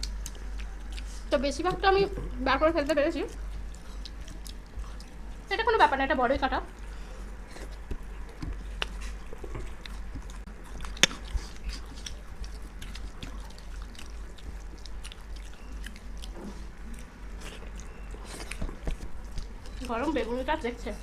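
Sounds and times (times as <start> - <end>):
low steady hum: 0.0 - 21.0
wet chewing: 0.0 - 21.0.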